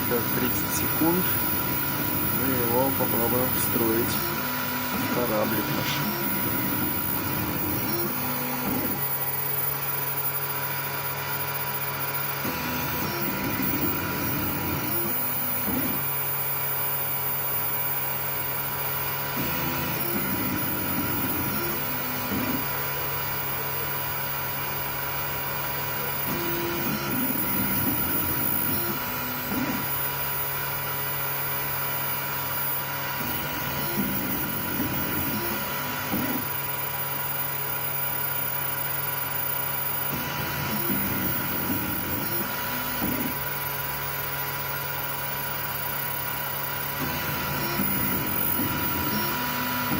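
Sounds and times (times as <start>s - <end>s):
steady hum: 0.0s - 44.7s, 46.8s - 49.9s
stepper motors whining: 0.0s - 49.9s.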